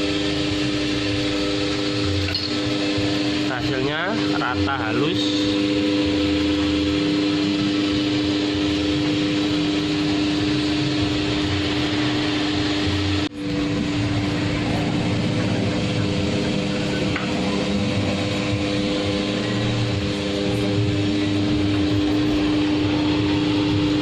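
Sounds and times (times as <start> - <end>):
electric motor humming: 0.0 - 24.0.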